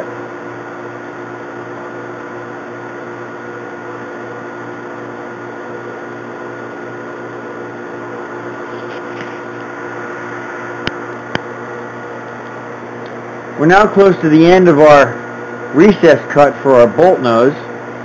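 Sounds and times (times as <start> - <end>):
metal lathe humming: 0.0 - 18.0.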